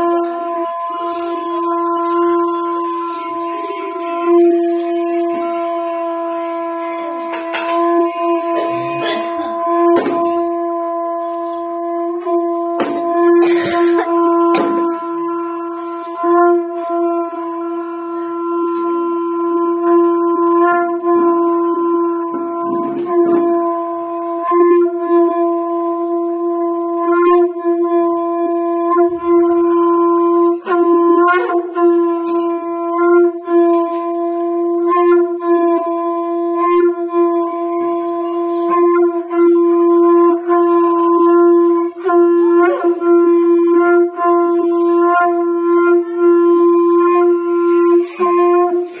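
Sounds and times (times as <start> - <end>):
conch shell blown: 0.0 - 49.0.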